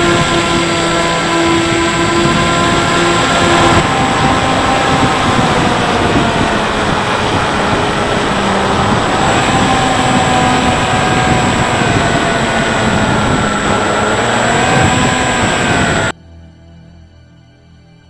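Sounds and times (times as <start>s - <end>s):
electric motor and propeller whine: 0.0s - 16.1s
wind rush: 0.0s - 16.1s.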